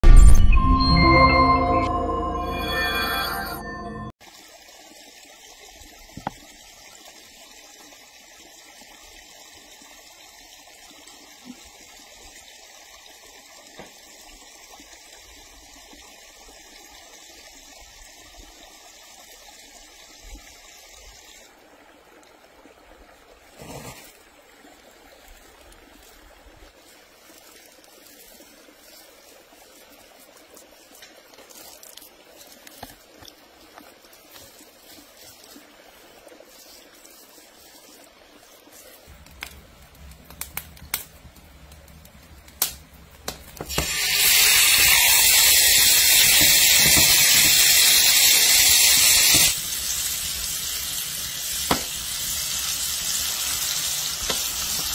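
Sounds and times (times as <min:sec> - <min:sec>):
running water trickling: 0:04.2 - 0:54.9.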